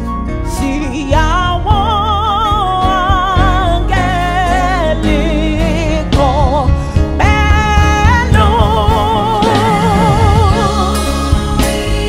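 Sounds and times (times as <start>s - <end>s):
live band with keyboard: 0.0s - 12.0s
woman singing: 0.5s - 12.0s.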